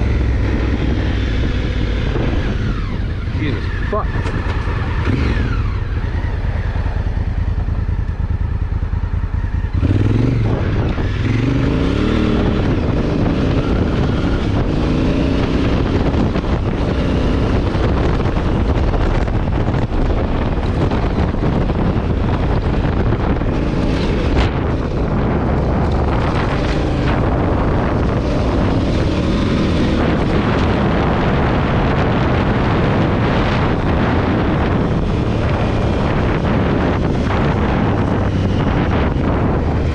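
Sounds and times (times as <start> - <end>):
motorcycle engine accelerating: 0.0 - 39.9
wind buffeting microphone: 0.0 - 39.9.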